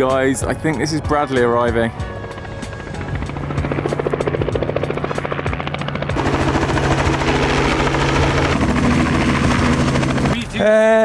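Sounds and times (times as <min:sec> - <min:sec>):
helicopter rotor chopping: 0:00.0 - 0:10.5.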